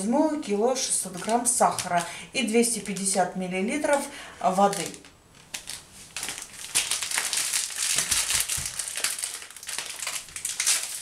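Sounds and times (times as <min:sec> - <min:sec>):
plastic packs crinkling: 0:00.8 - 0:03.2, 0:03.8 - 0:11.0.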